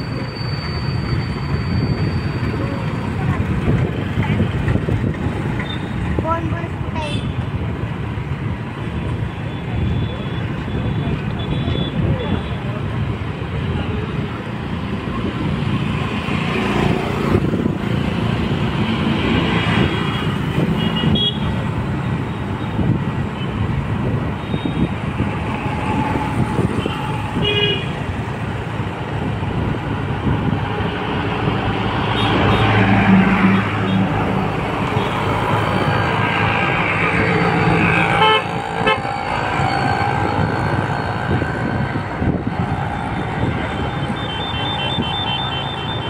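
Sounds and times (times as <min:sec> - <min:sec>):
motor scooter road noise: 0:00.0 - 0:46.0.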